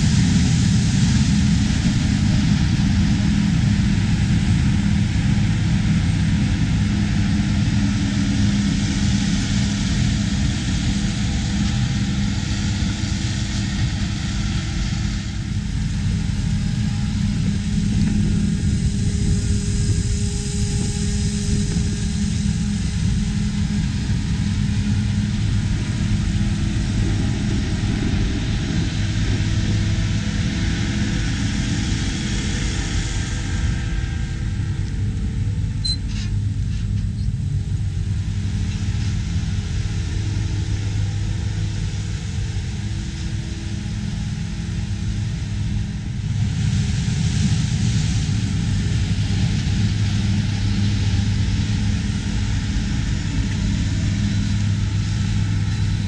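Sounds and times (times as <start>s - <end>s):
forage harvester droning: 0.0s - 56.0s.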